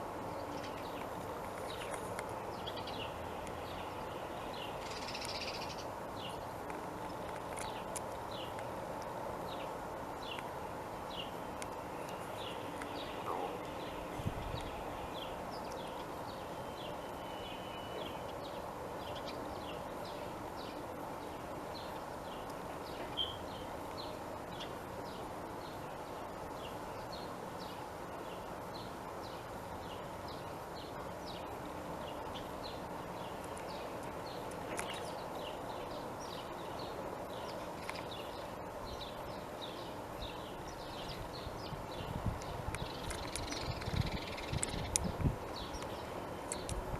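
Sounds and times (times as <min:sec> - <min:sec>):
small birds chirping: 0:00.0 - 0:46.9
steady background hum: 0:00.0 - 0:46.9.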